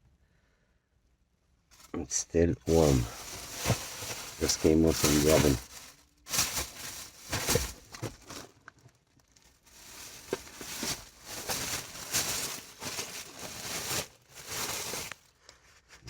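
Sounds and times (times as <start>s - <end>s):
bread loaf crinkling and rustling: 2.6s - 15.4s.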